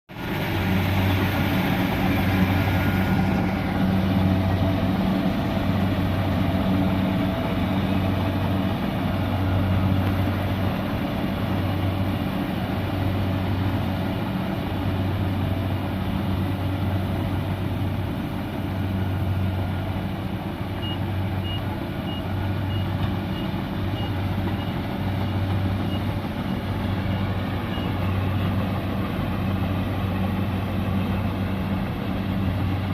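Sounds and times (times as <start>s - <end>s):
combine harvester engine running: 0.1s - 32.9s.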